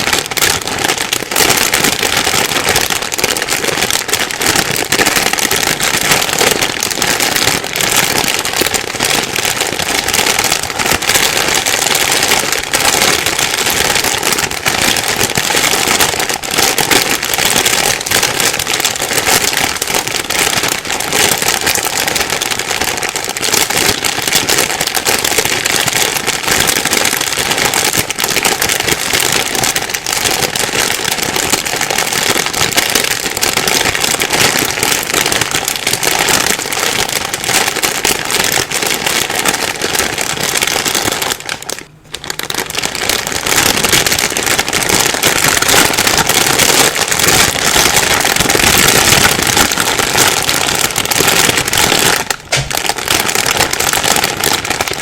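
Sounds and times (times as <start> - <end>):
plastic bag crumpling: 0.0 - 55.0.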